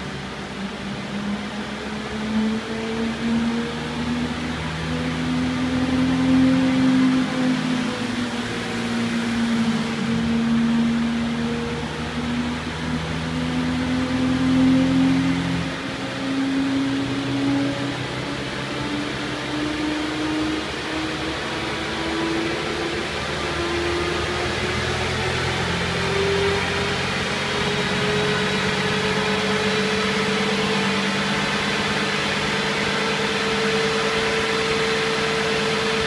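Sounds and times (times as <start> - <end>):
car on dynamometer whining: 0.0 - 36.0
steady rushing noise: 0.0 - 36.0.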